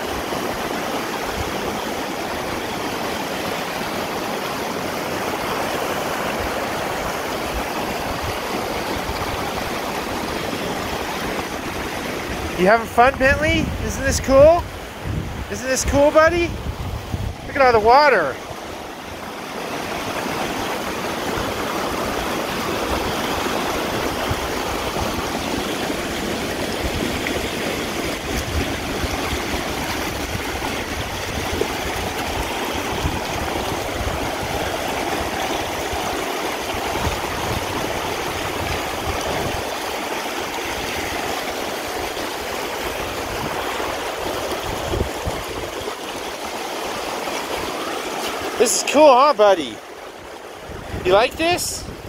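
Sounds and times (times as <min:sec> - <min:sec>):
river running over rocks: 0:00.0 - 0:52.0.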